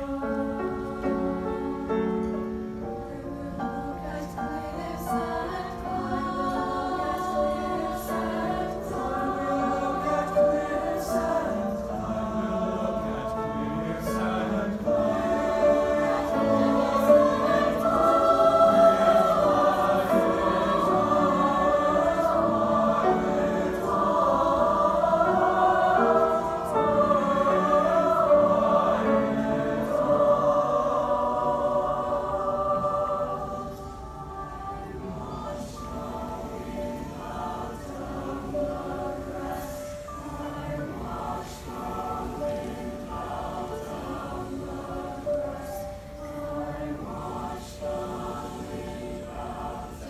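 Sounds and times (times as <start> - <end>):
mixed choir singing in harmony: 0.0 - 50.0.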